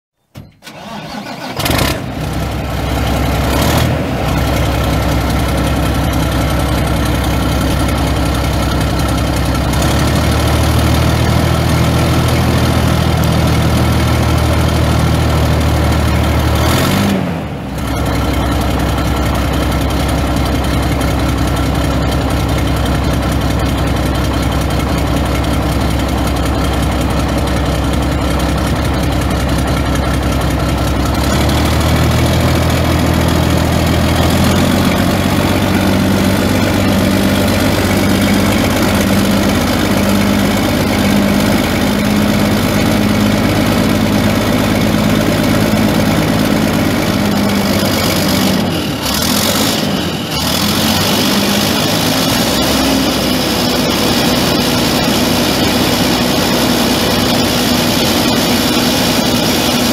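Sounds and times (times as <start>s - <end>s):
diesel truck engine idling: 0.6s - 59.9s.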